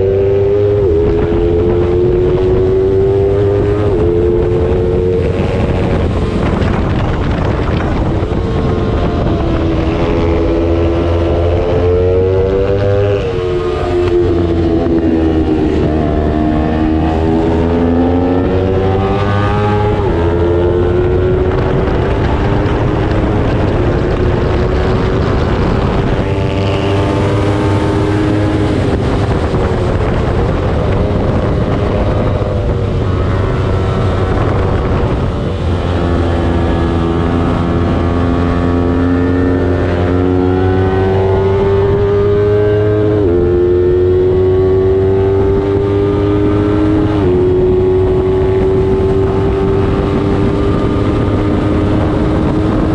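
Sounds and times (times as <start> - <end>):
motorcycle engine at high revs: 0.0 - 52.9.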